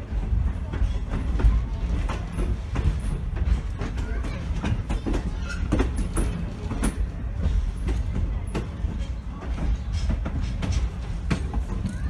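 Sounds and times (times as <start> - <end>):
steam train rumbling: 0.0 - 12.0
wheels clicking over rail joints: 0.0 - 12.0.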